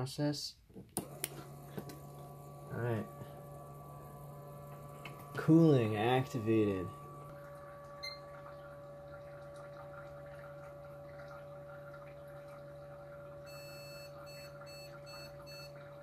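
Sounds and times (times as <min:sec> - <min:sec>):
electric pump humming: 0:01.0 - 0:16.0
oil gurgling: 0:01.3 - 0:16.0.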